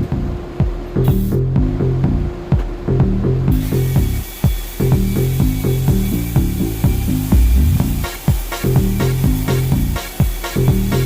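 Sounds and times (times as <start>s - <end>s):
background music with bass and drums: 0.0s - 11.0s.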